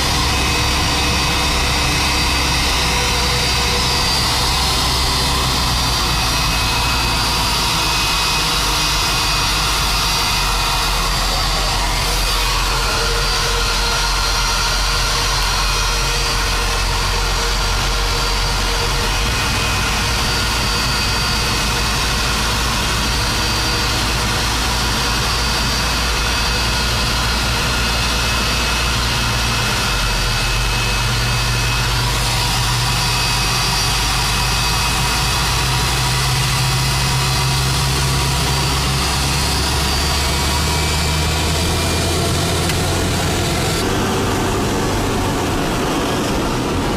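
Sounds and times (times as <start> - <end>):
jet engines idling: 0.0 - 46.9.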